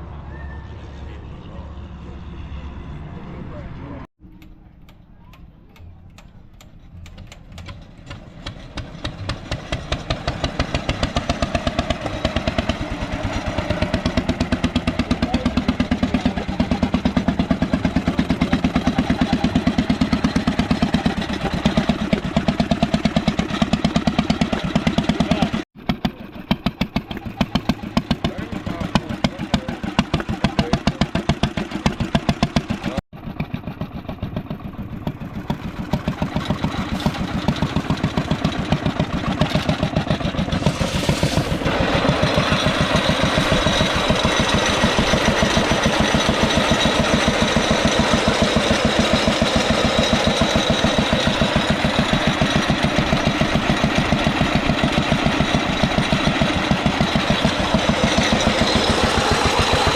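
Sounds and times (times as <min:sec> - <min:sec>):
old engine running: 0:05.8 - 0:59.9.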